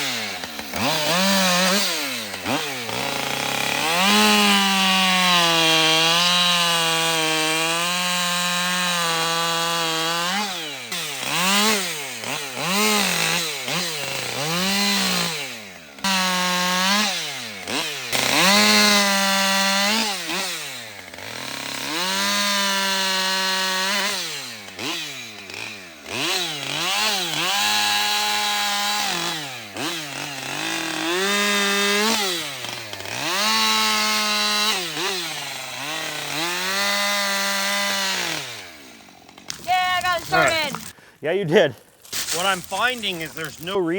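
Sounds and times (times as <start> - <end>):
chainsaw cutting through limbs: 0.0 - 43.9.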